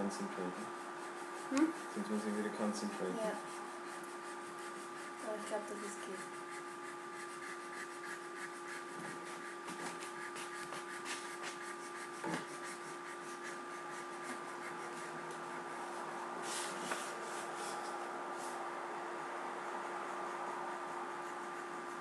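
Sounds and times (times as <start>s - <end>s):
electrical hum with hiss: 0.0s - 22.0s.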